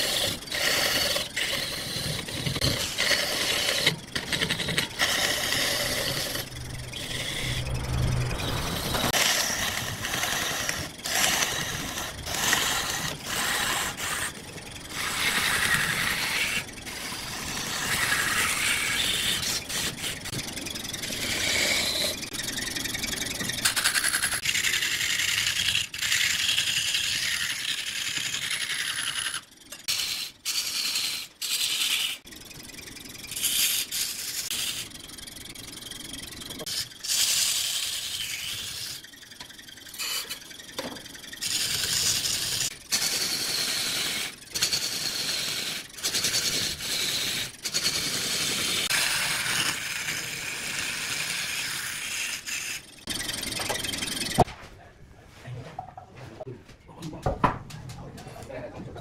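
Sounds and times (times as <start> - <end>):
lathe tool cutting wood: 0.0 - 30.3, 36.2 - 39.2, 39.9 - 54.5.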